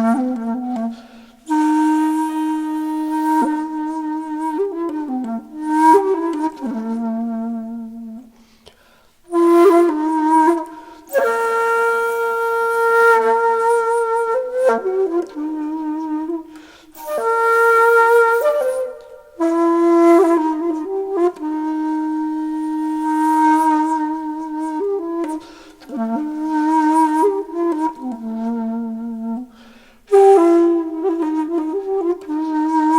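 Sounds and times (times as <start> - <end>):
flute-like wind instrument: 0.0 - 8.5, 9.3 - 32.9.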